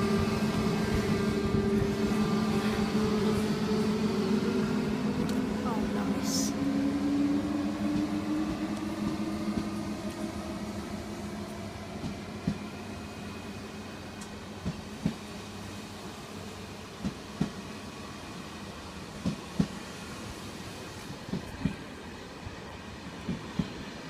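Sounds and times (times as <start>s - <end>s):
electric train drive humming: 0.0s - 20.8s.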